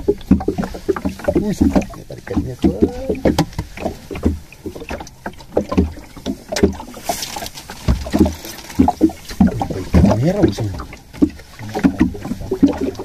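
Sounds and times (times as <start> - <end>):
knocks and thumps on boat: 0.0 - 13.0
water sloshing against hull: 0.0 - 13.0.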